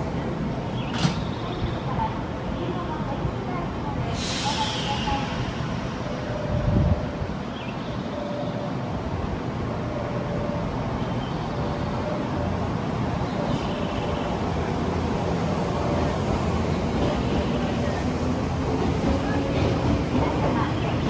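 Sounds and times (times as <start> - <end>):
rumble of traffic and trains: 0.0 - 21.0.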